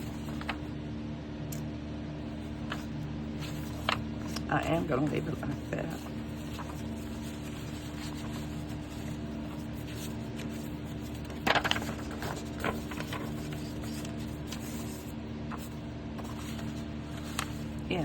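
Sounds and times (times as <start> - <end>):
paper crinkle: 0.0 - 0.7, 2.2 - 18.0
paper rustling and tapping: 0.0 - 0.7, 2.3 - 18.0
low hum: 0.0 - 18.0.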